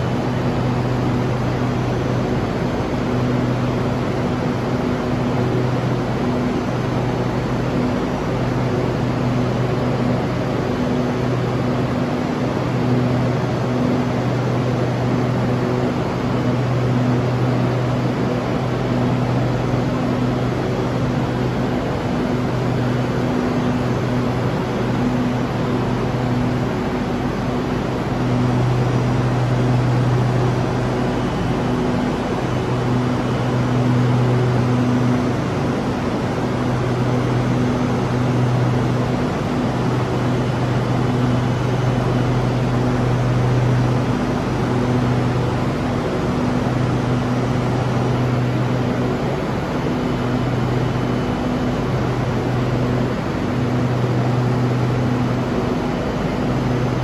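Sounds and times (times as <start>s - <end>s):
low drone: 0.0s - 57.0s
train air conditioning hum: 0.0s - 57.0s.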